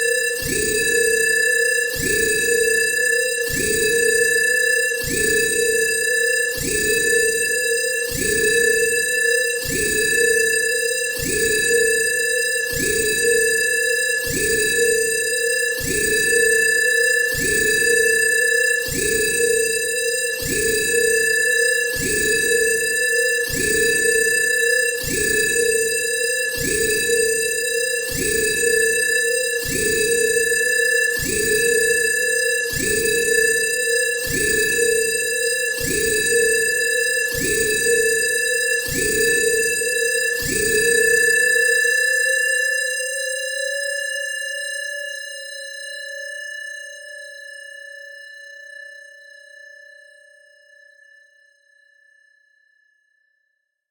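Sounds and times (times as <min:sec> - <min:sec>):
pulsing electronic alarm tone: 0:00.0 - 0:48.1.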